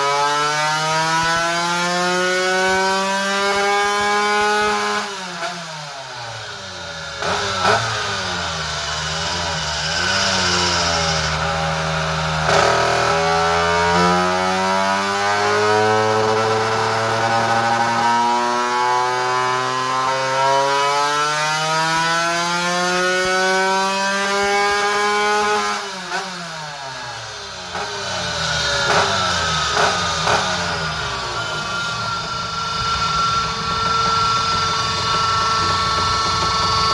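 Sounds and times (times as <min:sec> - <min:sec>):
two-stroke scooter engine revving: 0:00.0 - 0:36.9.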